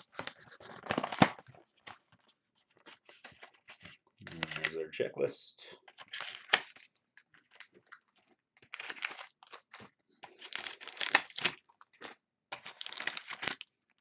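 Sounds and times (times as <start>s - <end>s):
foil card packs crinkling: 0.0s - 4.8s, 5.9s - 14.0s.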